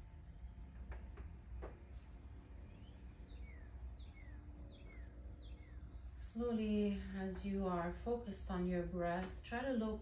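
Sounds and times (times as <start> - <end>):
songbird singing: 0.0 - 10.0
steady low hum: 0.0 - 10.0.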